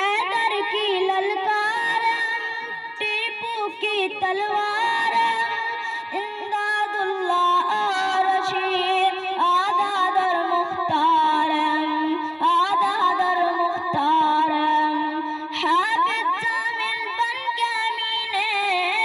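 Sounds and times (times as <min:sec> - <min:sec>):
boy singing into microphone: 0:00.0 - 0:19.0.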